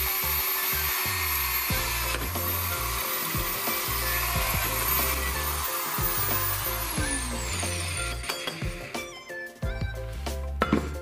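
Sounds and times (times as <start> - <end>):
drill boring into steel: 0.0 - 9.4
background music with bass beat: 1.7 - 11.0.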